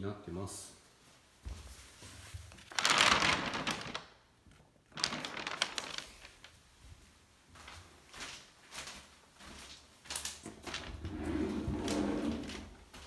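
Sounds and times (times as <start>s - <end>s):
paper crinkling under footsteps: 0.8s - 13.0s.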